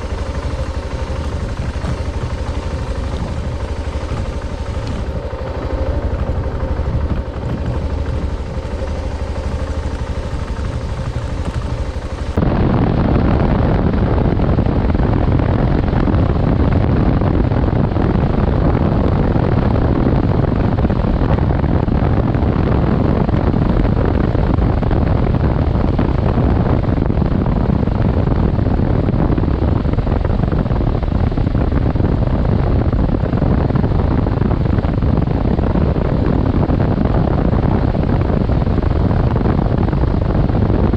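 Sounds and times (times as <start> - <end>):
motorcycle engine running: 0.0 - 40.9
steady rushing noise: 0.0 - 40.9
wind noise: 0.0 - 40.9.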